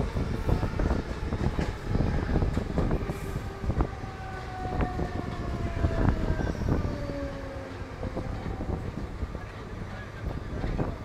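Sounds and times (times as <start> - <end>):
long whining tones: 0.0 - 9.2
train wheels rumbling over rail joints: 0.0 - 11.0.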